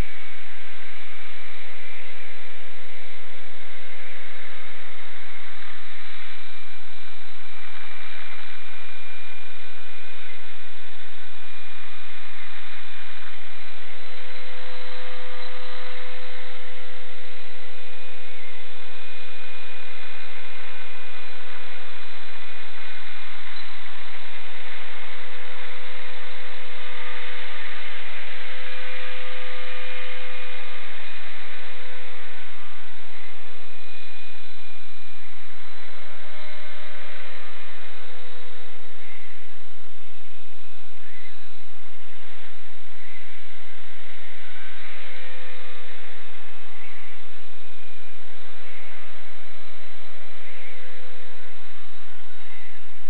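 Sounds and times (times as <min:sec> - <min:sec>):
electric motor whine: 0:00.0 - 0:53.0.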